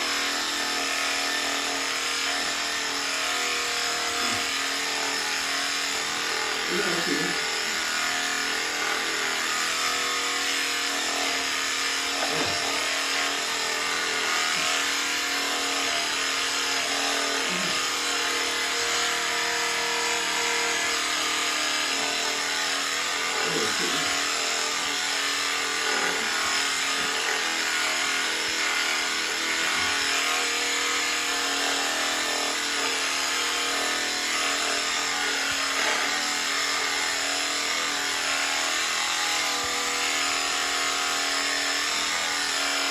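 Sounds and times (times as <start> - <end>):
electric clippers buzzing: 0.0 - 42.9.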